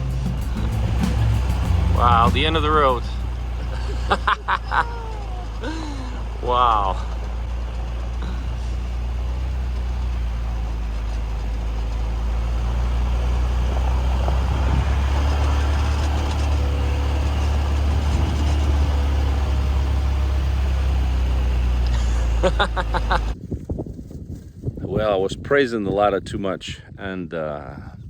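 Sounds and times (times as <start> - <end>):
car engine and road drone: 0.0 - 23.4.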